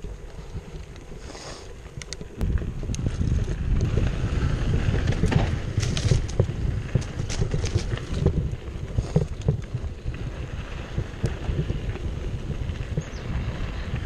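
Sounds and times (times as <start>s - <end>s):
bike clicks and rattles: 0.0s - 14.0s
wind rumble on microphone: 0.0s - 14.0s.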